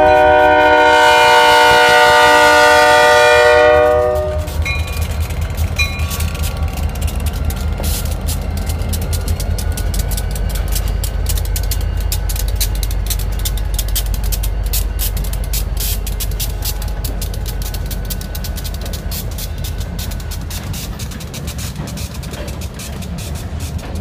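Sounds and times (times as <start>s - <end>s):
diesel locomotives rumbling: 0.0s - 24.0s
train wheels clattering over rail joints: 0.0s - 24.0s.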